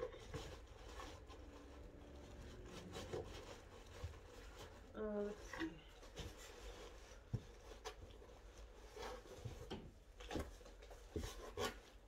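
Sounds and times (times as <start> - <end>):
rustling against cardboard box: 0.0 - 12.0.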